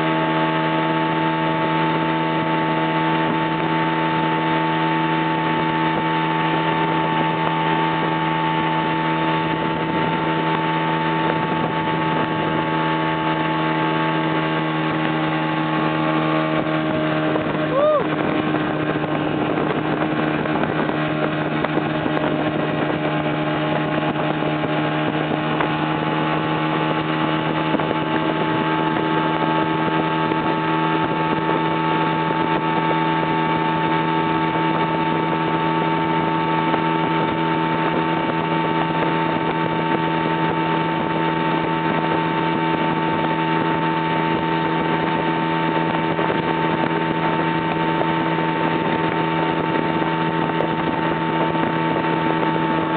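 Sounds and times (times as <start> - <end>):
constant rushing noise: 0.0 - 52.9
motorboat engine running: 0.0 - 52.9.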